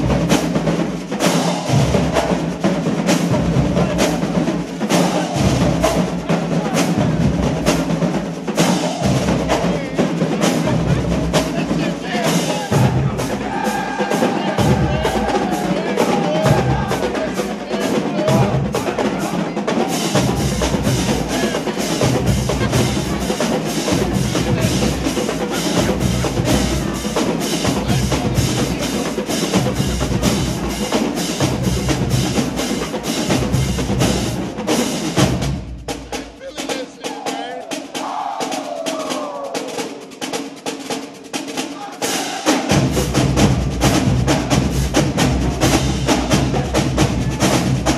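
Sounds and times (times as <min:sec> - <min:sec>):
snare drums: 0:00.0 - 0:47.9
tenor drums: 0:00.0 - 0:47.9.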